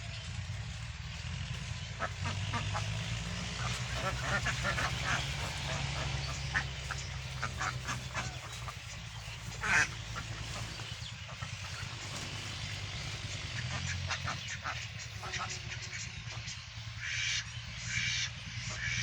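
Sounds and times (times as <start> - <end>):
ducks quacking: 0.0 - 19.0
steady low hum: 0.0 - 19.0.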